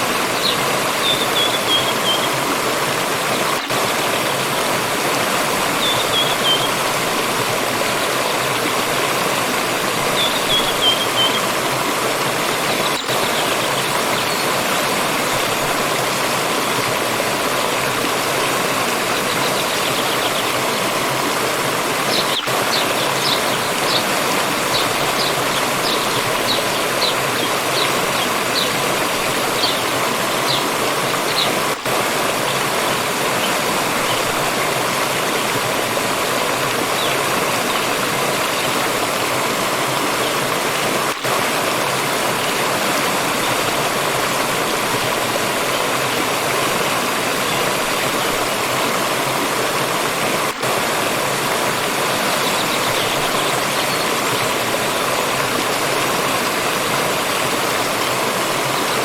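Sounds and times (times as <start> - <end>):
forest stream rushing: 0.0 - 59.0.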